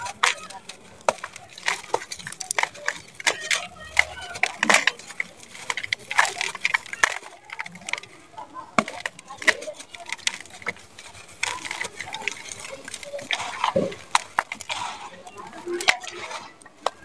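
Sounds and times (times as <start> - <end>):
grit falling into a bowl: 0.0 - 17.0
gritty crunches of crumbling chunks: 0.0 - 17.0.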